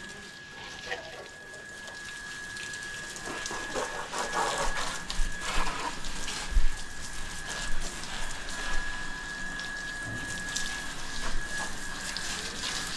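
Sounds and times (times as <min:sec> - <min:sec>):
steady high whine: 0:00.0 - 0:12.9
water spraying and splashing: 0:00.0 - 0:12.9.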